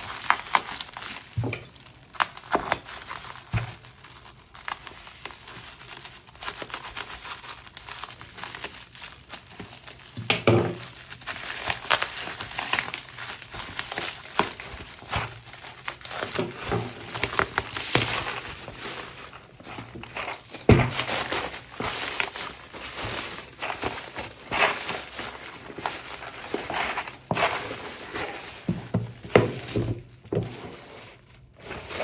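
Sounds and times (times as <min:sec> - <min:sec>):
plastic and paper crinkling: 0:00.0 - 0:32.0.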